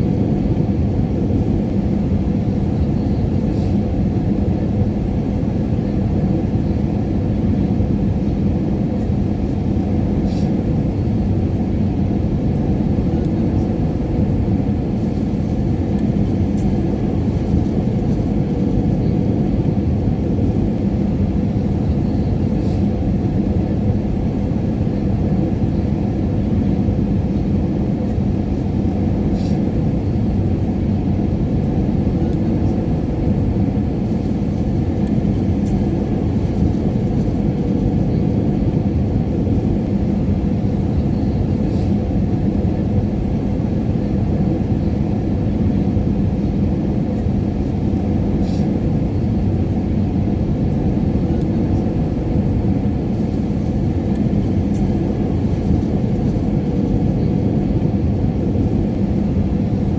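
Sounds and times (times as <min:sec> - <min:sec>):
airliner engine and airflow rumble: 0:00.0 - 0:59.9.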